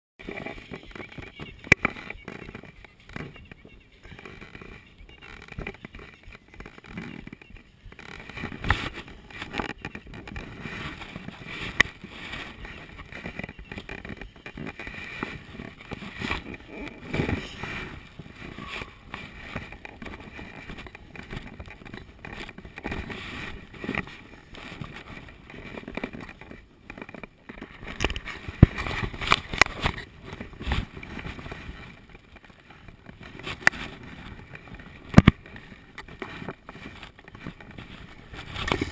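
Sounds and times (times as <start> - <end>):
rustling: 0.2 - 38.9
knocks and bumps on camera: 5.4 - 34.0, 34.6 - 38.9.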